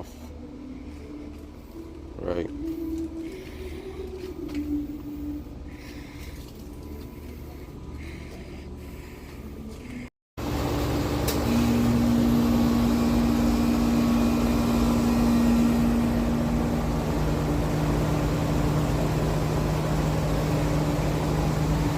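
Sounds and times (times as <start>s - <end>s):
compressor hum: 0.0s - 21.9s
fan rushing: 0.0s - 21.9s.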